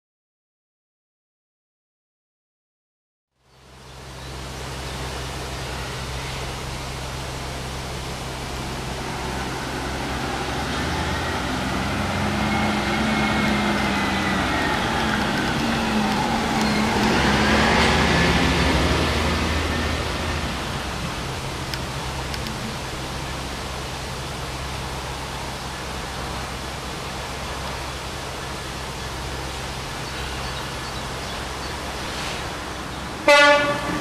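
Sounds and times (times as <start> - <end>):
diesel locomotive engine pulling away: 3.4 - 34.0.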